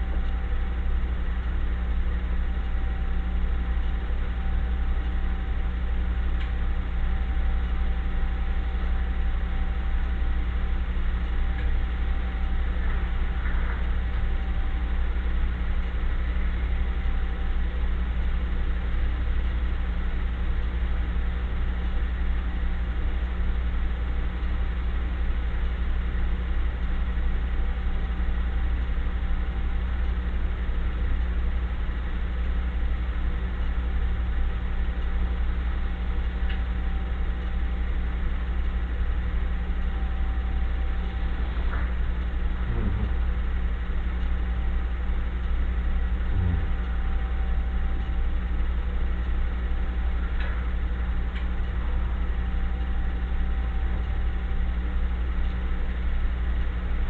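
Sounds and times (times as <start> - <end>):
faint high whine: 0.0 - 57.0
low hum: 0.0 - 57.0.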